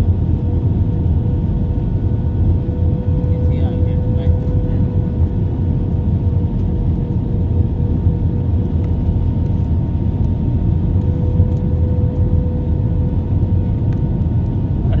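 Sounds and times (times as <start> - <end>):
airplane engine rumble: 0.0 - 15.0.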